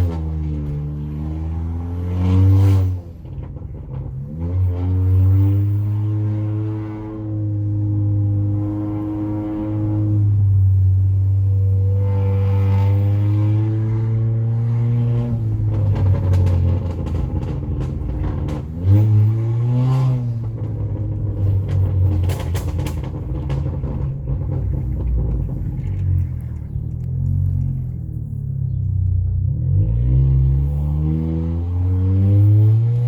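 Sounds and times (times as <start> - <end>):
car engine running: 0.0 - 33.0.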